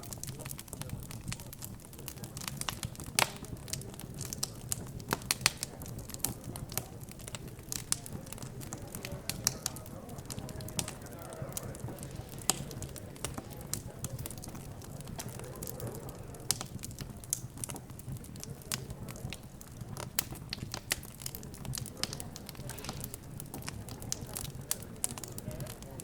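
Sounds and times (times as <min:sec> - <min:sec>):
fireplace crackling: 0:00.0 - 0:26.0.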